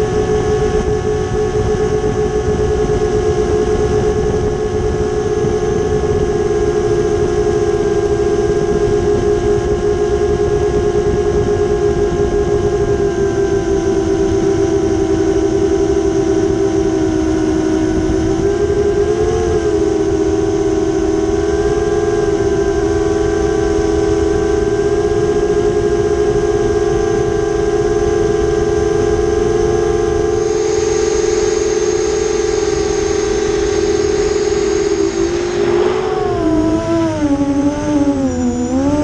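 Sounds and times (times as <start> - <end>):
quadcopter motors whining: 0.0 - 39.0.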